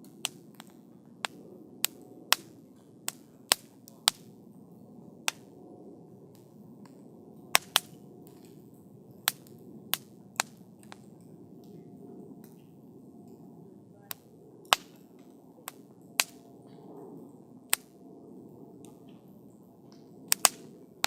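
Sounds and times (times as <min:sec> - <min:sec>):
logs crackling and popping: 0:00.0 - 0:04.4, 0:05.2 - 0:05.5, 0:06.2 - 0:11.8, 0:12.4 - 0:13.4, 0:14.0 - 0:18.1, 0:18.8 - 0:21.0
campfire rustling: 0:00.0 - 0:21.0.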